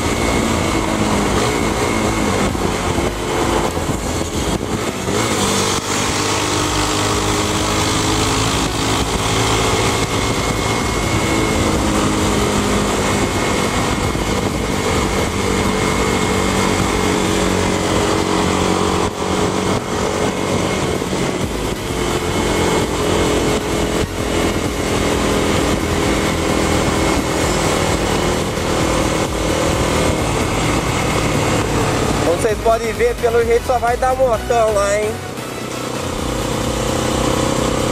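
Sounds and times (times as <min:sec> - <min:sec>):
wind rush on microphone: 0:00.0 - 0:34.2
motorcycle engine running: 0:00.0 - 0:37.9.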